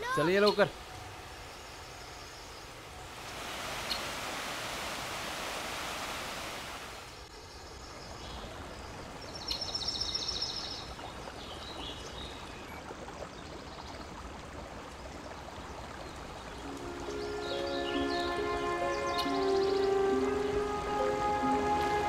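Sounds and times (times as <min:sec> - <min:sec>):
stream water rushing over rocks: 0:03.1 - 0:07.2, 0:08.3 - 0:22.0.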